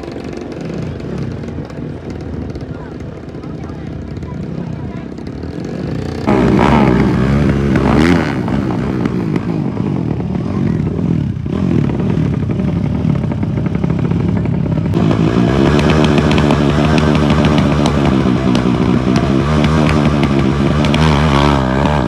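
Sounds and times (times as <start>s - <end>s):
racing motorcycle engines revving: 0.0s - 22.0s.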